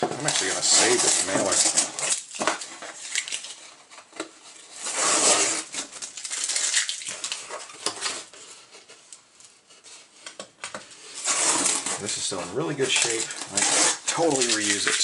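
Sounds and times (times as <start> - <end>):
cardboard rustling and scraping: 0.0 - 6.0, 7.2 - 15.0.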